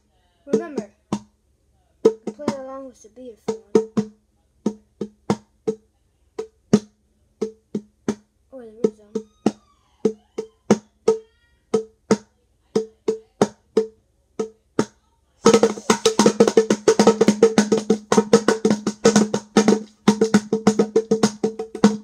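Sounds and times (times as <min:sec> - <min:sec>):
conga drums played by hand: 0:00.5 - 0:01.4, 0:02.0 - 0:02.8, 0:03.5 - 0:22.0.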